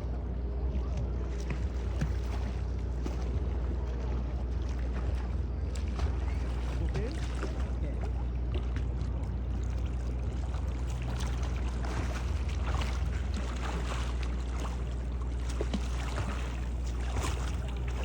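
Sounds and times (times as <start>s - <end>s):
steady low rumble: 0.0s - 18.0s
paddle strokes splashing water: 0.7s - 18.0s.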